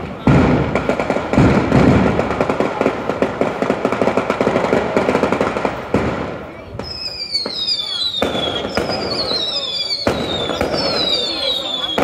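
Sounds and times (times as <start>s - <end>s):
firecracker cracks: 0.0s - 12.0s
fireworks bangs: 0.0s - 12.0s.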